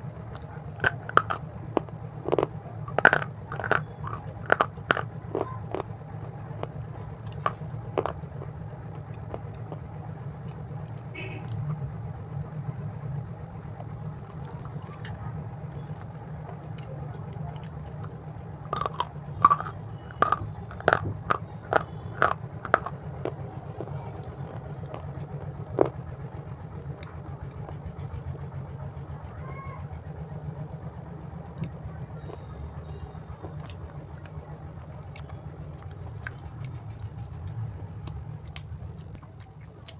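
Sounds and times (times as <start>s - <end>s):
steady low hum: 0.0s - 39.9s
chewing crisp chips: 0.1s - 28.6s, 31.4s - 39.9s.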